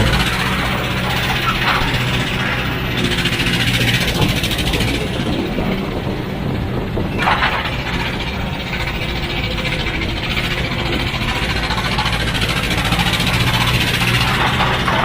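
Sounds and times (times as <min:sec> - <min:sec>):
heavy machine engine: 0:00.0 - 0:15.0.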